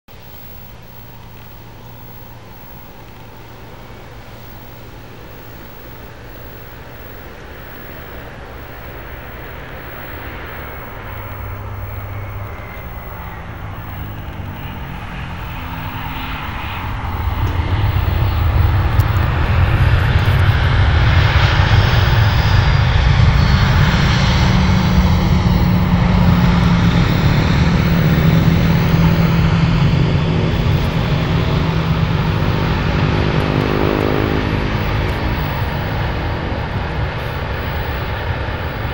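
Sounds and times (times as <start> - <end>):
jet engines roaring: 0.1 - 38.9.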